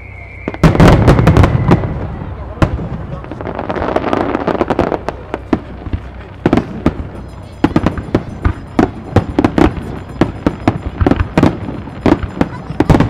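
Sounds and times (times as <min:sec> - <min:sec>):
fireworks bursting in a barrage: 0:00.0 - 0:13.0.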